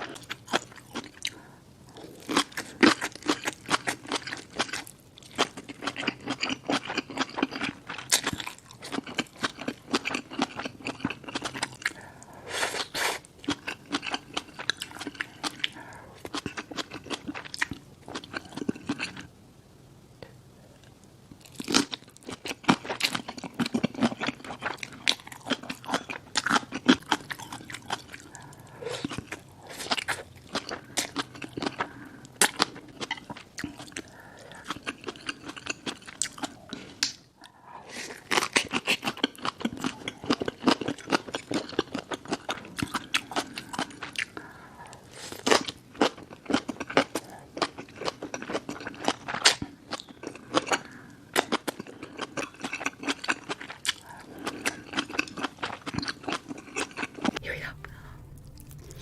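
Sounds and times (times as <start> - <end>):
chewing crunchy food: 0.0 - 19.3, 20.2 - 59.0.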